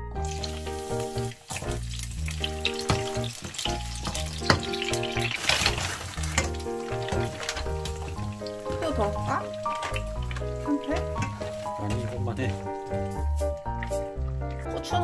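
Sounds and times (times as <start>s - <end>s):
garlic sizzling in oil: 0.2s - 15.0s.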